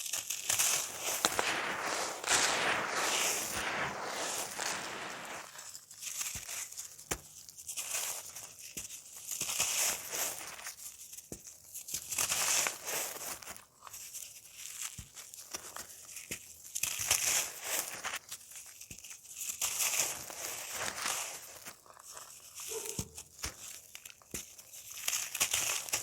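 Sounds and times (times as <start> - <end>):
dry cake crumbling: 0.0 - 14.0, 18.0 - 26.0.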